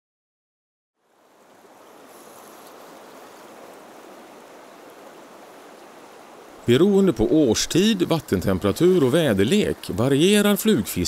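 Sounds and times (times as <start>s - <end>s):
river rushing over stones: 1.0s - 11.0s.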